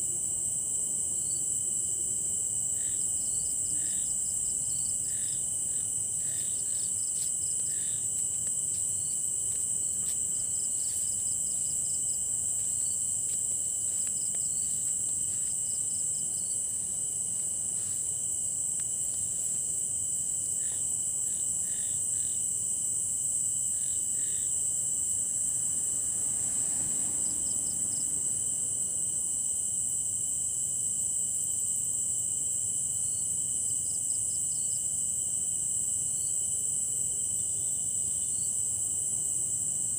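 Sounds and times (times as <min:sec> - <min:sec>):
crickets trilling: 0:00.0 - 0:39.9
insect chirps: 0:00.0 - 0:39.9
steady lower insect tone: 0:00.0 - 0:39.9.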